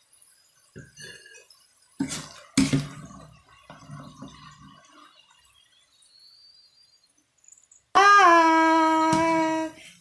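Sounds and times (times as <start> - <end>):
frying oil sizzle: 0.0 - 8.2.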